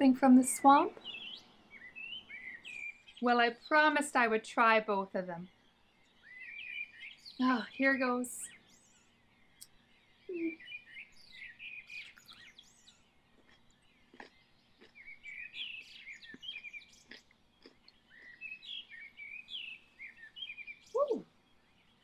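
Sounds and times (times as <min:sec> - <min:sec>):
songbirds chirping and twittering: 0:00.0 - 0:22.0.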